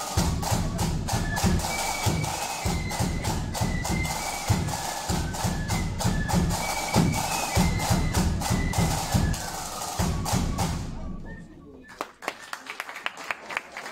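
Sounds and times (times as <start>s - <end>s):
side drum and bass drum beats: 0.0s - 11.5s
flutes playing melody: 0.0s - 12.2s.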